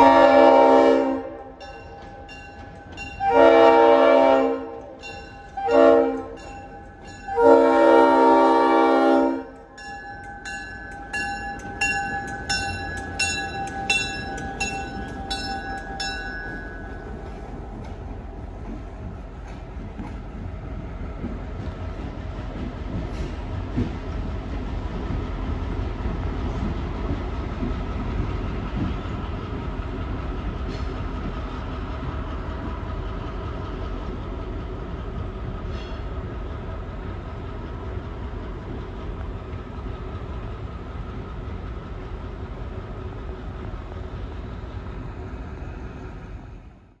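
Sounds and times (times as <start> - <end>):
diesel locomotive engine droning: 0.0 - 47.0.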